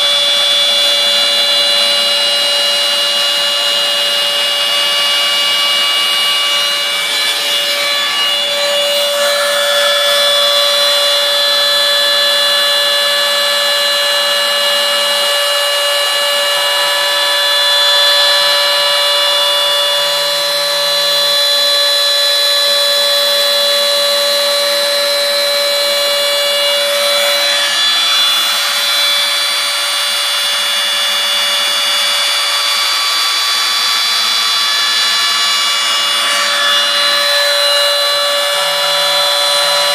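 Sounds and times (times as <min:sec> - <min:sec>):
cnc router whine: 0:00.0 - 0:39.9.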